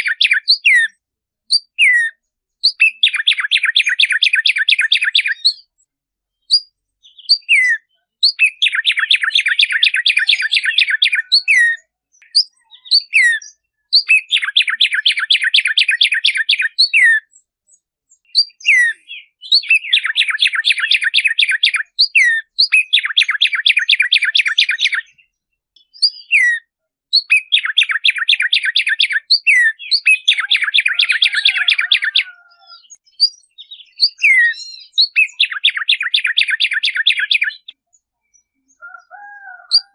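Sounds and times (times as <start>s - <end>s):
sparrow singing: 0.0s - 39.9s.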